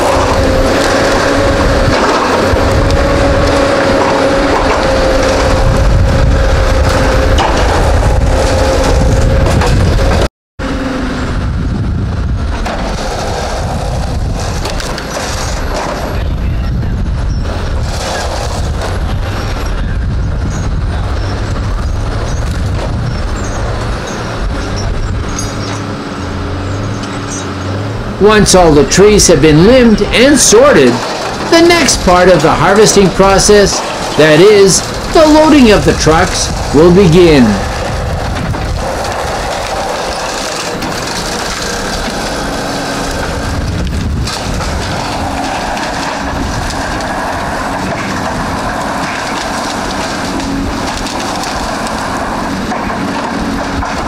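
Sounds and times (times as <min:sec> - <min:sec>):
diesel machine whine and rumble: 0:00.0 - 0:54.0.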